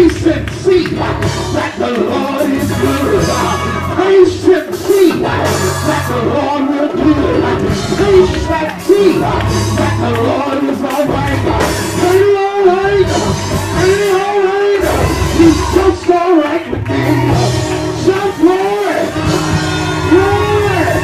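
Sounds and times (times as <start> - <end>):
bass notes: 0.0 - 21.0
keyboard: 0.0 - 21.0
person singing lead vocals: 0.0 - 21.0.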